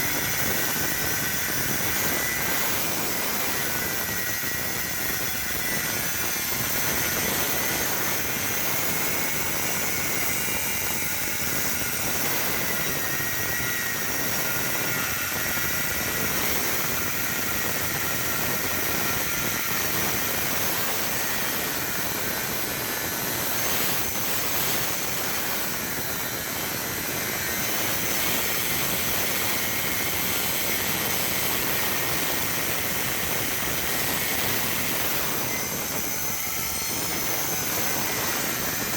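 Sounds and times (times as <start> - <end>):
welding machine whine: 0.0 - 38.9.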